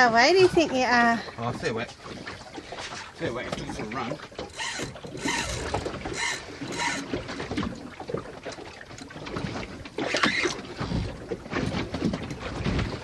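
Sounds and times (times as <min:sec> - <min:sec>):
water sloshing against boat: 0:00.0 - 0:13.0.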